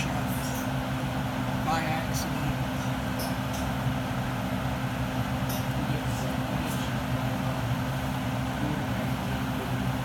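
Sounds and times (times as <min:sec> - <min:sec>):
droning hum: 0:00.0 - 0:10.0.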